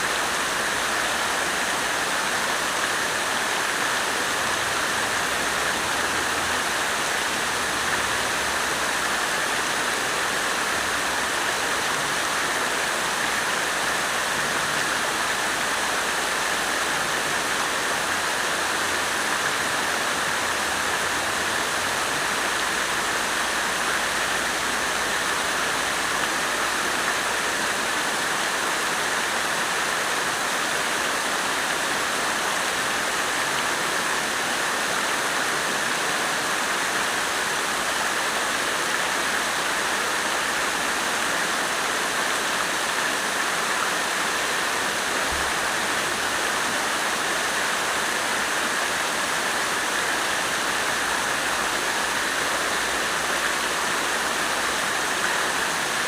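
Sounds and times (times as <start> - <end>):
water fountain splashing: 0.0 - 56.0.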